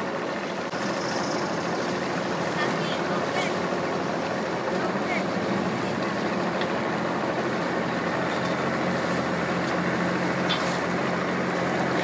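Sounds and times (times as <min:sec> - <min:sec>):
engine idling: 0:00.0 - 0:12.0
outdoor background noise: 0:00.0 - 0:12.0.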